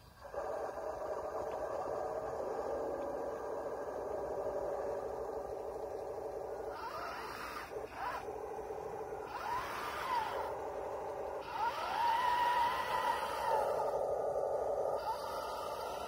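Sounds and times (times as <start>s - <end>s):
electronic tank engine sound: 0.0s - 16.0s
rising and falling whine: 0.0s - 16.0s.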